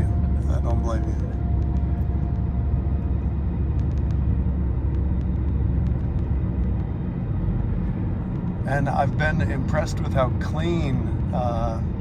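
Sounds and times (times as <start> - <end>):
van engine and tyre rumble: 0.0 - 12.0.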